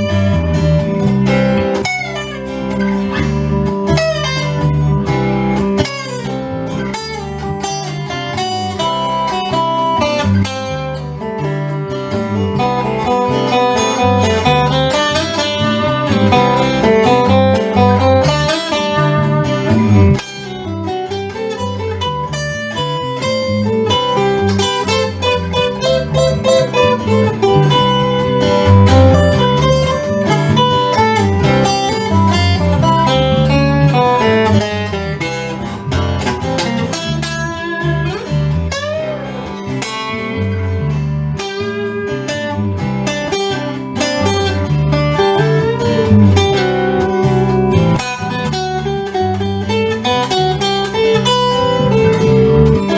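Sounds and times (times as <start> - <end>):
bluesy acoustic guitar: 0.0 - 52.9.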